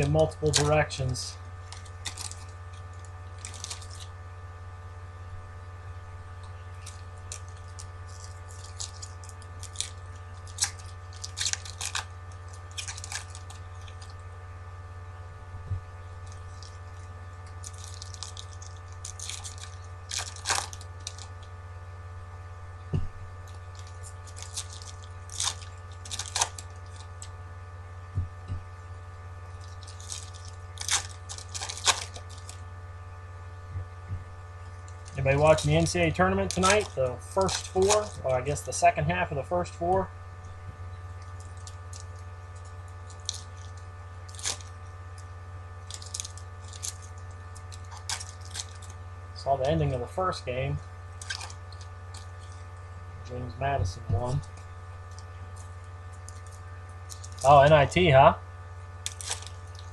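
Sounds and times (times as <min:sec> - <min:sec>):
foil wrappers crinkling and tearing: 0:00.0 - 0:04.3, 0:06.4 - 0:14.4, 0:16.0 - 0:21.6, 0:23.3 - 0:27.5, 0:29.2 - 0:32.8, 0:34.6 - 0:40.0, 0:41.0 - 0:53.0, 0:54.0 - 0:59.9
steady electrical hum: 0:00.0 - 0:59.9.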